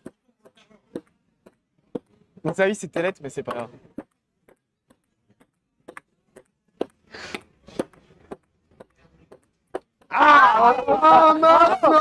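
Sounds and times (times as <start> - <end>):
table tennis ball clicking: 0.0 - 10.1.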